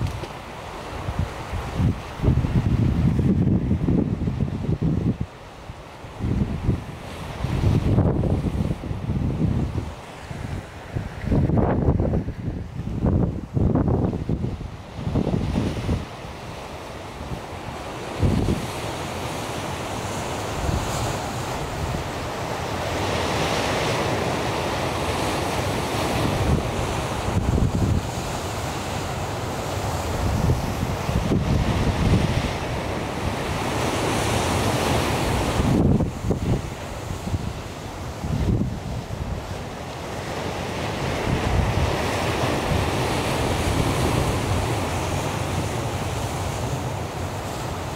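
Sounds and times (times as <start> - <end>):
sea surf: 0.0 - 47.9
wind buffeting microphone: 1.0 - 5.3, 6.1 - 16.6, 17.2 - 47.9.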